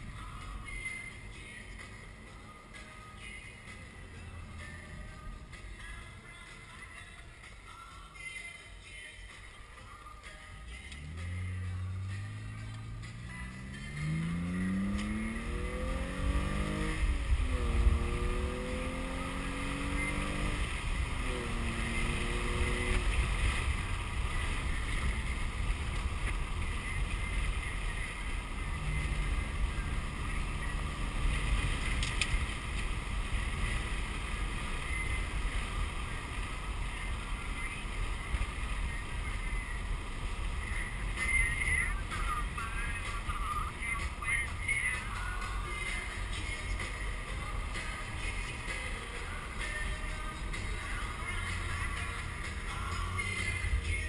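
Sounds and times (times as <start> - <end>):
road and wind noise: 0.0 - 54.0
car engine accelerating: 10.7 - 54.0.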